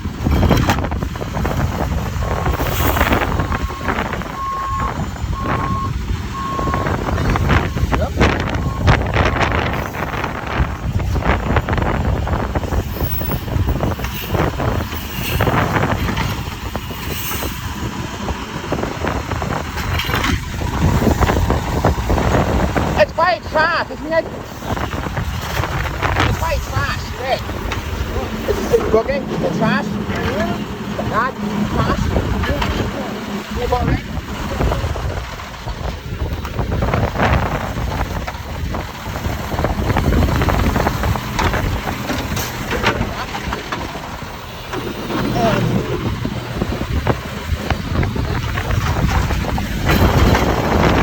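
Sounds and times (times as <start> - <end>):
diesel truck engine running: 0.0 - 51.0
wind buffeting microphone: 0.0 - 51.0.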